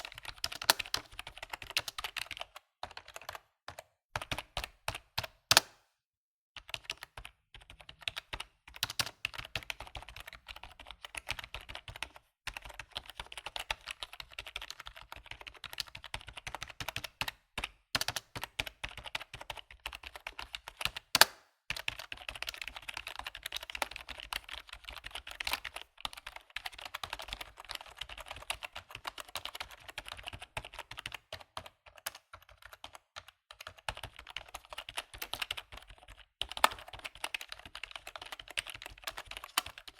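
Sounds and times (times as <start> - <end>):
computer keyboard typing: 0.0 - 5.8, 6.6 - 39.9.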